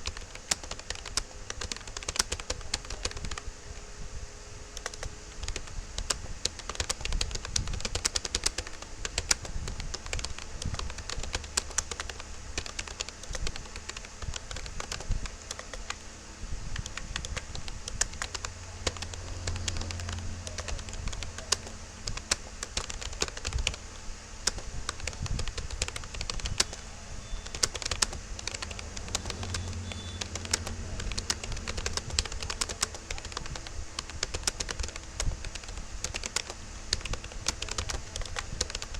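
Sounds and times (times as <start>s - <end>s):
keyboard typing clicks: 0.0s - 3.5s, 4.8s - 16.1s, 16.7s - 23.8s, 24.4s - 38.9s.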